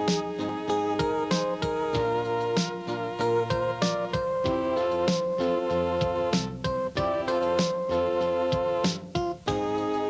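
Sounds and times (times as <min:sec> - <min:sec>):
held chords: 0:00.0 - 0:10.0.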